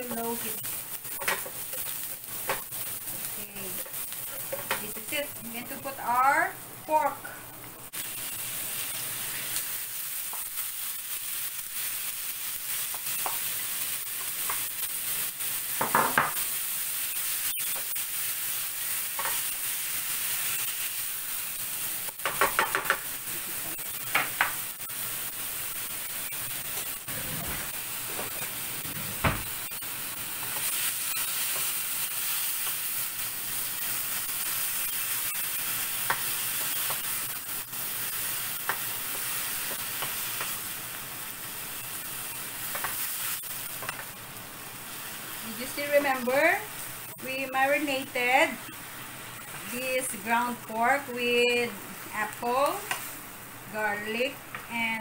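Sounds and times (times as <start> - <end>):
meat sizzling in a pan: 0.0 - 55.0.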